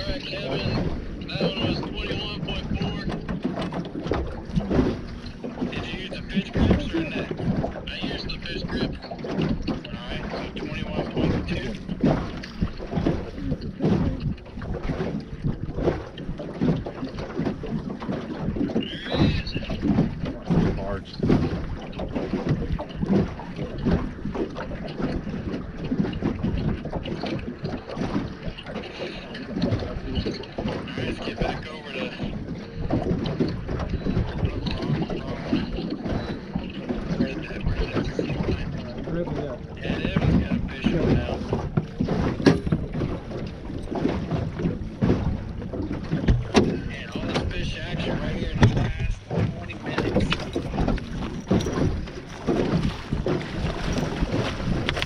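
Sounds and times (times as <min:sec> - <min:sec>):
boat and water rumbling: 0:00.0 - 0:55.0
wind buffeting microphone: 0:00.0 - 0:55.0.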